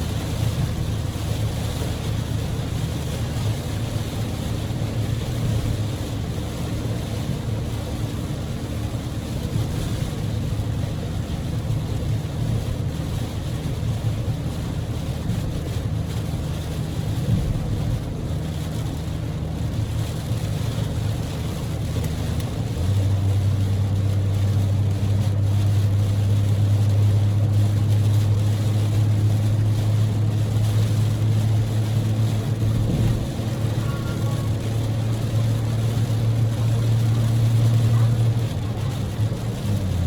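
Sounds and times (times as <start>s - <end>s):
engine and road drone: 0.0s - 40.0s
heavy rain and road spray hiss: 0.0s - 40.0s.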